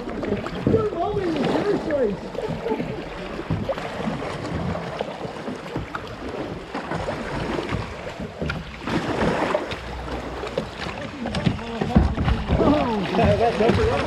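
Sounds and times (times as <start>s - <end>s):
river water rushing: 0.0s - 14.0s
water splashing: 0.0s - 14.0s.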